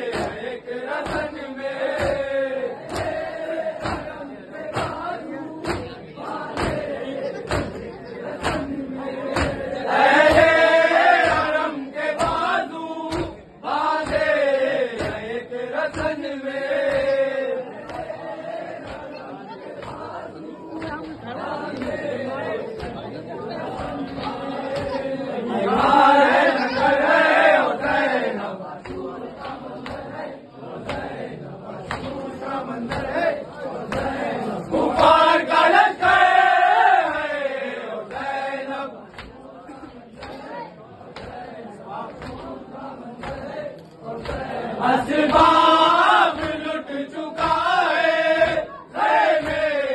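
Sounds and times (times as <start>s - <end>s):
men chanting a lament: 0.0s - 49.9s.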